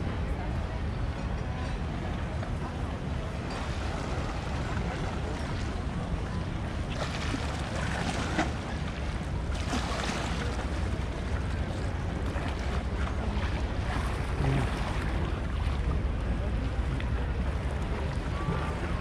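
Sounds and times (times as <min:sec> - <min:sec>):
faint sea wash: 0:00.0 - 0:19.0.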